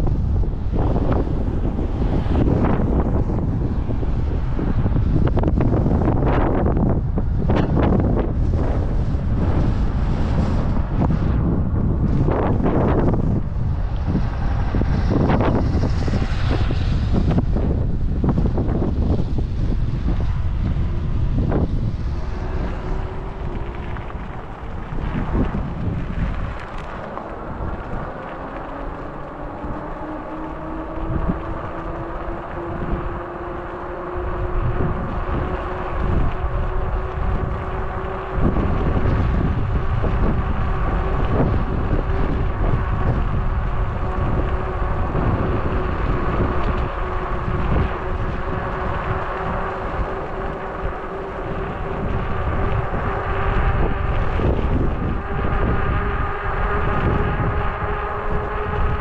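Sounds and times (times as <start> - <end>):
electric bike motor whining: 0.0 - 59.0
wind buffeting microphone: 0.0 - 59.0.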